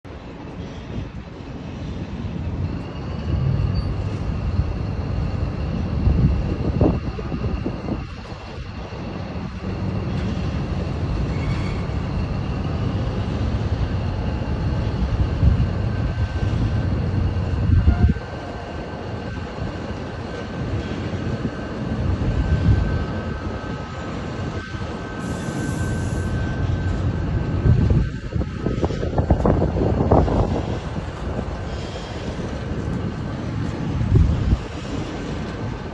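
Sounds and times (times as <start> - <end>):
train cars rolling on rails: 0.0 - 35.9.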